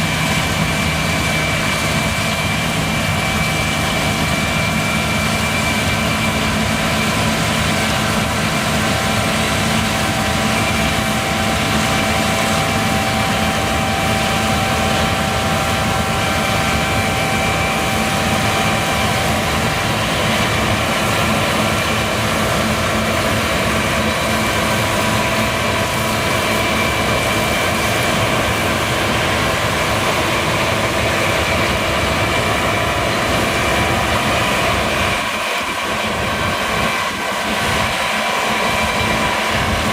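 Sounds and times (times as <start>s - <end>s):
combine harvester drone: 0.0s - 39.9s
steady whining tones: 0.0s - 39.9s.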